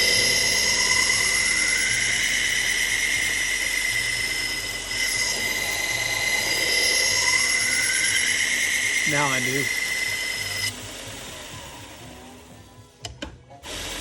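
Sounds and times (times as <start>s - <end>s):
belt sharpener grinding blade: 0.0s - 11.8s.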